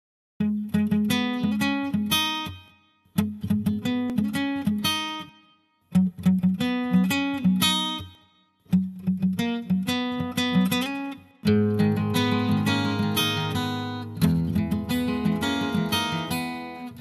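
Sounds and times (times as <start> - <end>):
acoustic guitar music: 0.4 - 17.0.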